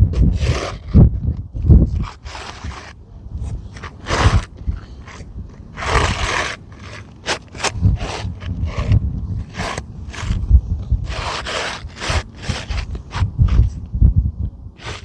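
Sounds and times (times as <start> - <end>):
shingle scraping on shingle: 0.1 - 13.8, 14.8 - 15.0.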